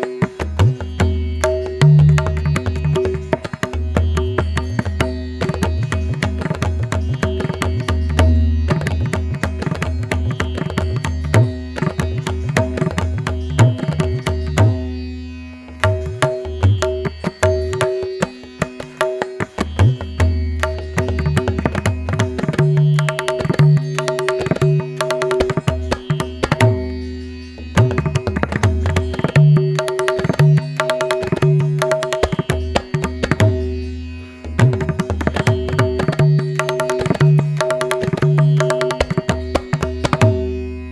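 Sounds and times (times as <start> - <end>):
tabla playing: 0.0 - 40.9.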